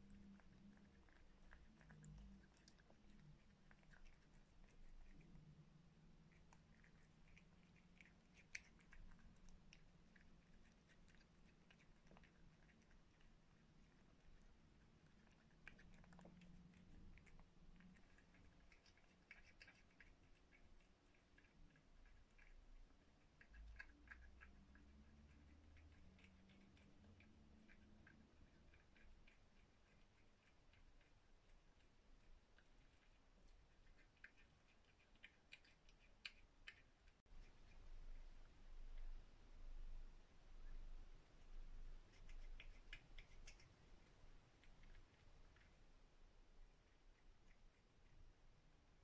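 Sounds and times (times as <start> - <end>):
cat chewing wetly: 0.0 - 49.0
low steady hum: 0.0 - 49.0.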